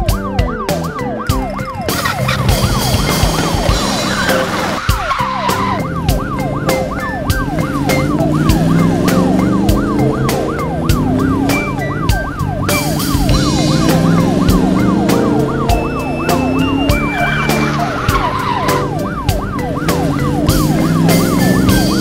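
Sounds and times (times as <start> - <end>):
cartoon siren wail: 0.0 - 22.0.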